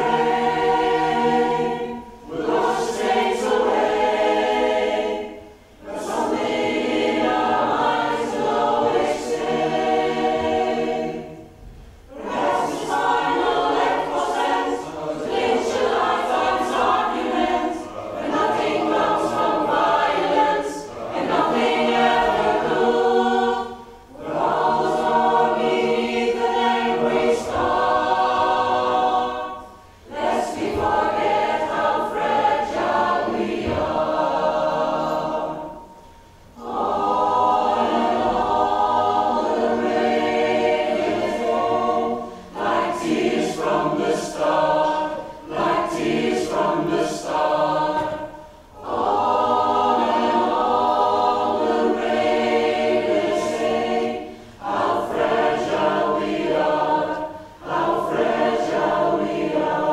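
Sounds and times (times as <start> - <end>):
mixed choir singing: 0.0 - 59.9.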